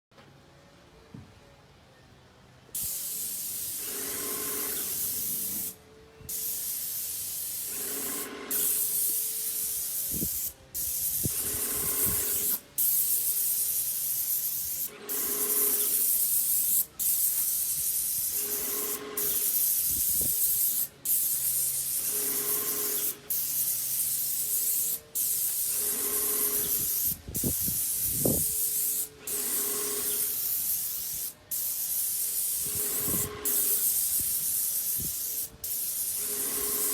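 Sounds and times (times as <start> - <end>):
paint sprayer hissing: 2.7 - 36.9.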